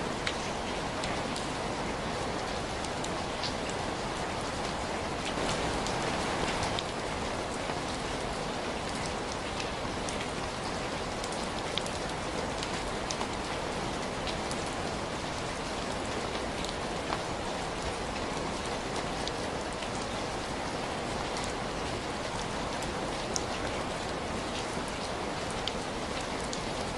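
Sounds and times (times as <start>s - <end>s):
rain drops ticking: 0.0s - 26.9s
rain falling: 0.0s - 26.9s.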